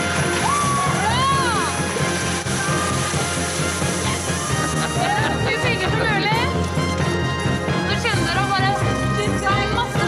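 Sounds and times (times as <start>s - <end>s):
loud background music: 0.0s - 10.0s.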